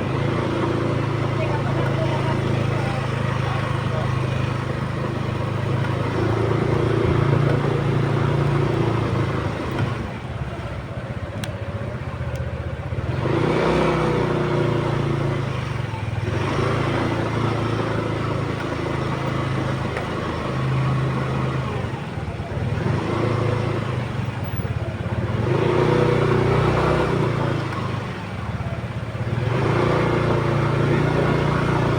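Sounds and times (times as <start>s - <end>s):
motorcycle engine running: 0.0s - 31.9s
road and wind noise: 0.0s - 31.9s.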